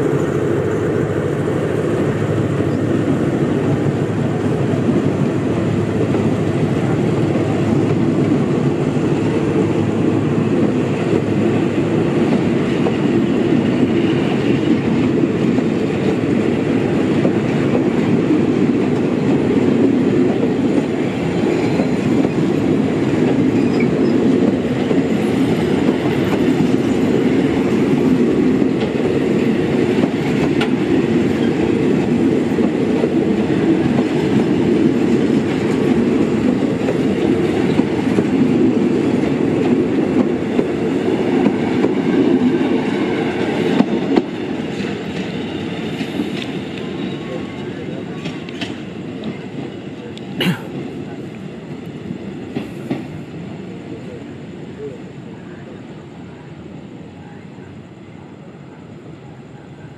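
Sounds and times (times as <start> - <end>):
train rumbling along rails: 0.0 - 59.9.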